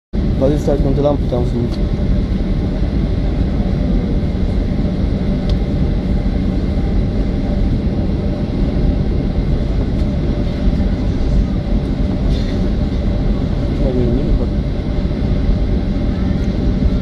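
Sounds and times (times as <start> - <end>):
faint engine whine: 0.2 - 17.0
jet engines rumbling: 0.2 - 17.0.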